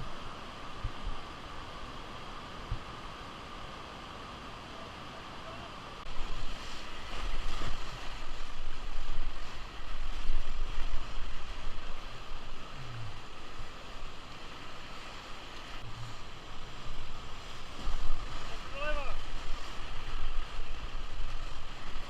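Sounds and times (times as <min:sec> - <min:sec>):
river water rushing around boat: 0:00.0 - 0:22.0.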